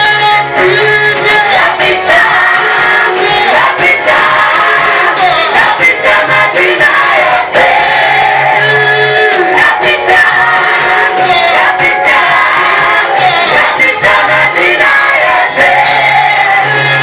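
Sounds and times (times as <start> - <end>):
instrumental backing: 0.0 - 17.0
group singing worship song: 0.1 - 17.0.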